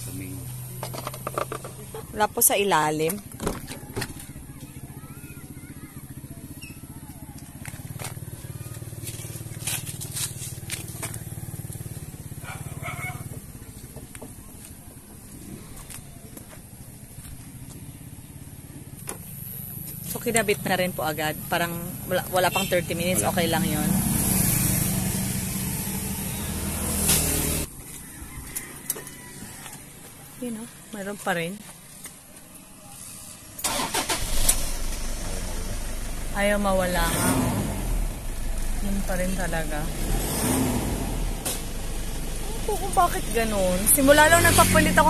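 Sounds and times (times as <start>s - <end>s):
engine idling: 0.0s - 24.0s, 29.7s - 45.0s.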